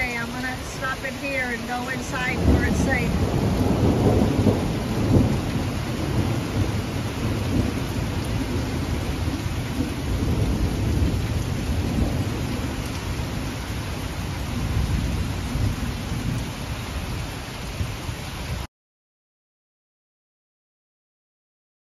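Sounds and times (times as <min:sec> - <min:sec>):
low rumble of thunder: 0:00.0 - 0:18.7
steady rain: 0:00.0 - 0:18.7.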